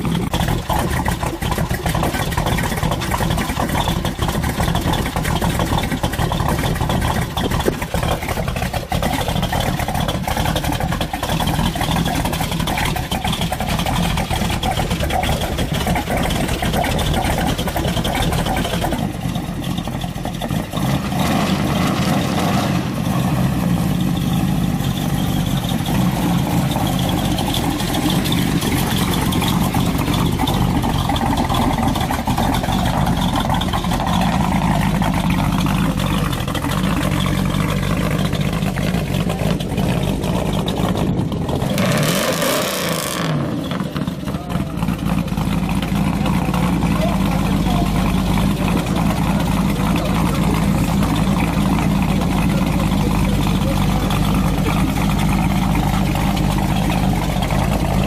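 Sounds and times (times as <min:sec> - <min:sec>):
car engine running loud: 0:00.0 - 0:58.0.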